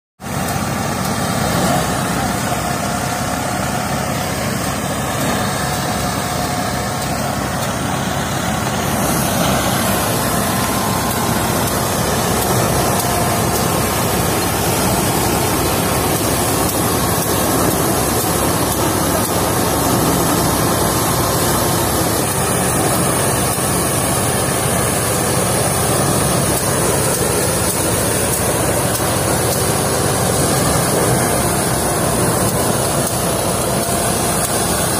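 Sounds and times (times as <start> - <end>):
threshing machine running: 0.2 - 34.9.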